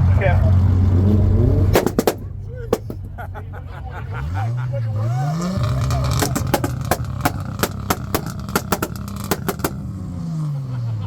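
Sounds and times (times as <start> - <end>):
car engine rumble: 0.0 - 11.0
exhaust popping and banging: 0.0 - 11.0.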